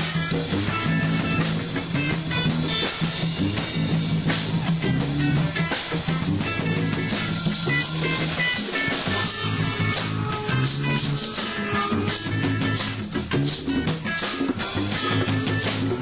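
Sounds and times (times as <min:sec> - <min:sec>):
band music: 0:00.0 - 0:16.0
shaker rhythm: 0:00.0 - 0:16.0.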